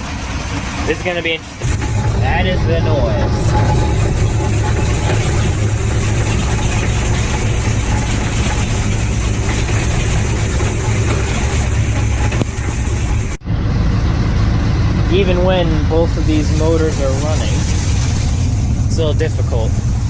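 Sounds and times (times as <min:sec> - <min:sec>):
boat engines running: 0:00.0 - 0:20.0
transmission noise: 0:00.9 - 0:20.0.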